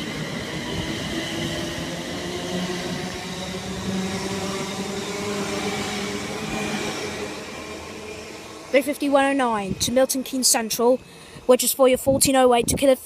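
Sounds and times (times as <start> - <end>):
electric train whine: 0.0 - 12.0
train rolling noise: 0.0 - 12.8.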